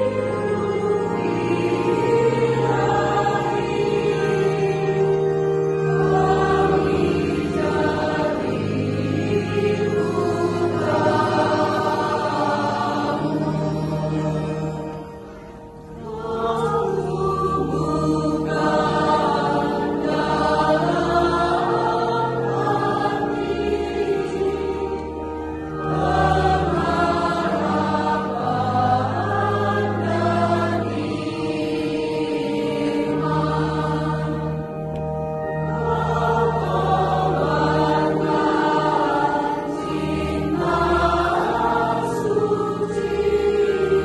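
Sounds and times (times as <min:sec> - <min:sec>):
children's choir singing a hymn: 0:00.0 - 0:44.0.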